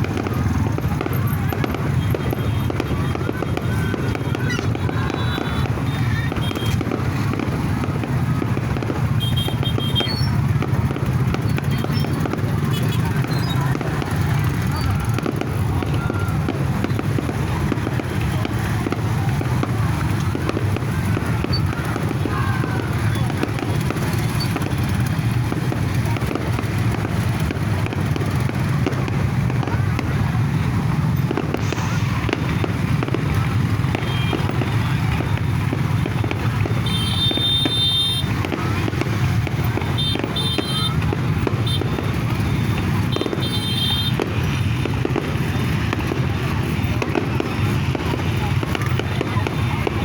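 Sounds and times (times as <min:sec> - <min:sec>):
fireworks crackling and popping: 0:00.0 - 0:50.0.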